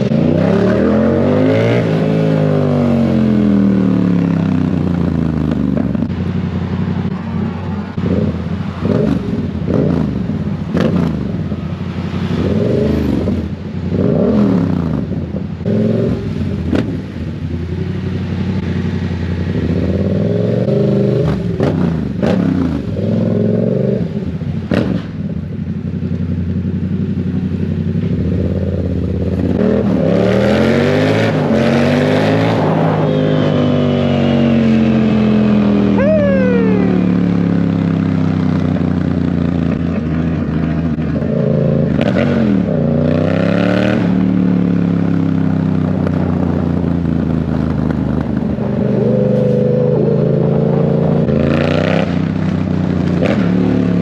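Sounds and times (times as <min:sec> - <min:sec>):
motorcycle revving: 0:00.0 - 0:54.0.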